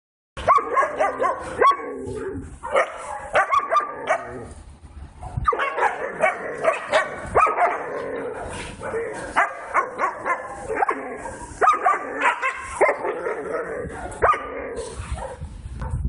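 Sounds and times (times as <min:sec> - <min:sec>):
dogs barking and yelping: 0:00.4 - 0:04.6, 0:05.2 - 0:16.0.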